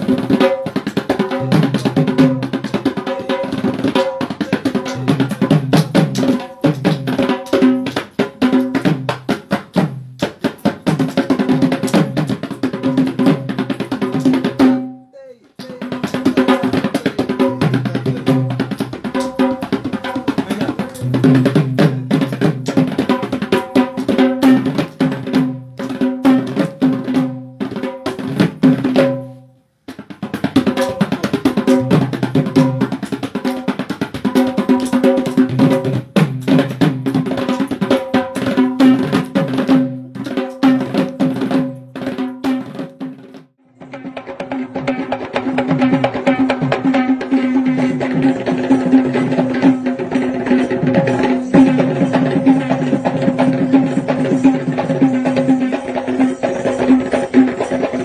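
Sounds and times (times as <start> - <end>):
hand-played barrel drum: 0.0 - 58.0.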